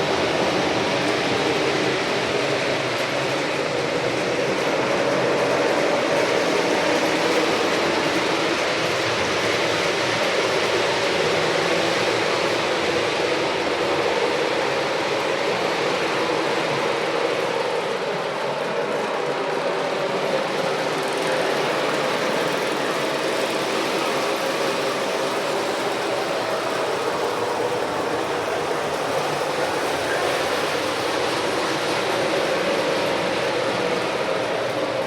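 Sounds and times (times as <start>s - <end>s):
model train rolling on track: 0.0s - 35.0s.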